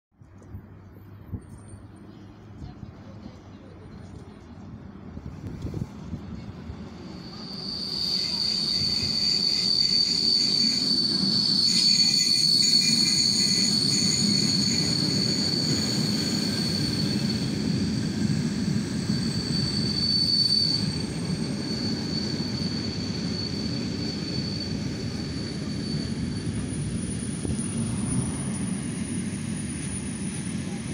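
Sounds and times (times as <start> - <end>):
train rumble: 0.2 - 30.9
train wheels squealing: 0.4 - 4.4, 5.0 - 30.9.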